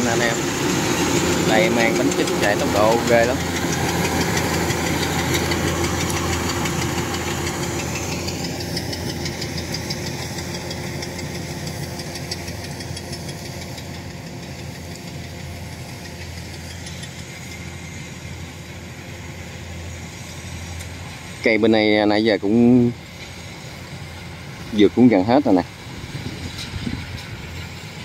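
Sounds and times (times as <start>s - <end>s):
combine harvester engine hum: 0.0s - 28.0s.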